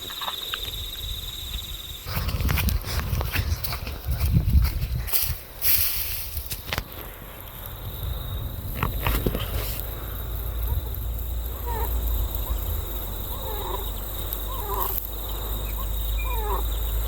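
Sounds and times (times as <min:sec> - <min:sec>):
steady low rumble: 0:00.7 - 0:17.0.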